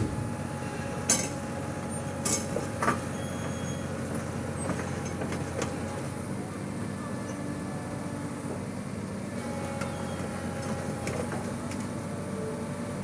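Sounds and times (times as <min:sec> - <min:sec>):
heavy diesel engine under load: 0:00.0 - 0:13.0.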